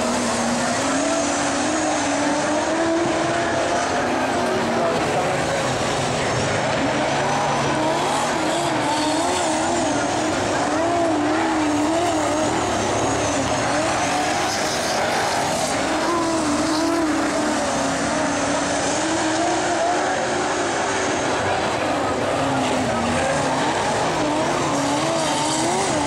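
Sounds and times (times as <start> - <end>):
race car engines passing: 0.0 - 26.0.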